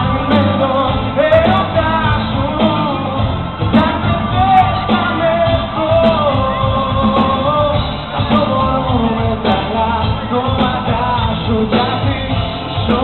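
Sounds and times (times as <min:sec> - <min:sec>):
live band playing pop song: 0:00.0 - 0:13.0
man singing lead vocal: 0:00.0 - 0:13.0.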